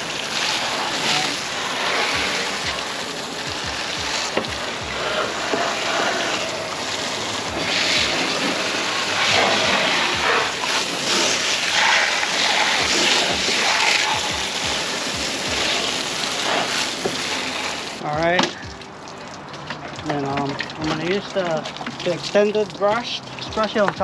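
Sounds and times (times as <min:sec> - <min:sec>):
hose spraying water on plastic: 0:00.0 - 0:24.0.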